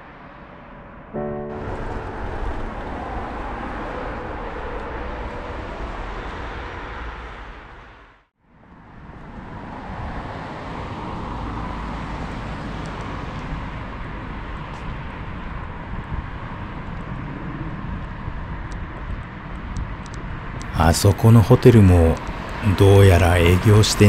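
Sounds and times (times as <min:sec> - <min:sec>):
cars passing on street: 0:00.0 - 0:24.0.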